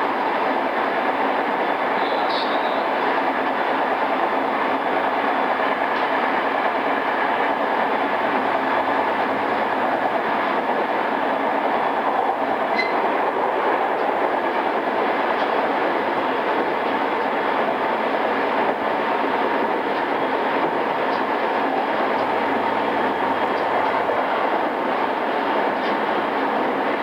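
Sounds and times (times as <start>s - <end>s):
train wheel and motor noise: 0.0s - 27.0s.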